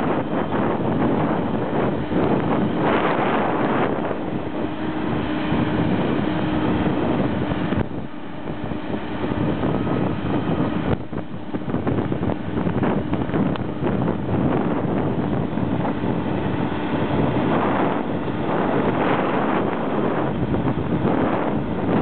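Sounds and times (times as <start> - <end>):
tractor engine running: 0.0 - 22.0
wind buffeting microphone: 0.0 - 22.0.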